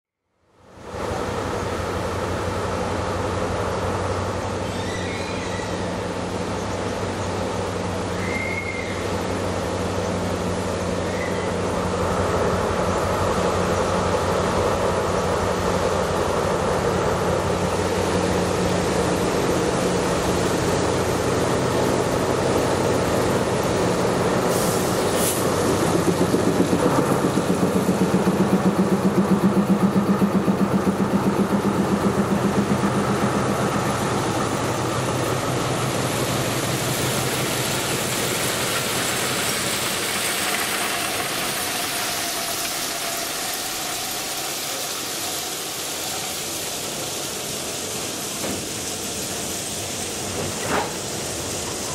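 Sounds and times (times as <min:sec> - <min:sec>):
locomotive engine pulsing: 0:01.0 - 0:51.9.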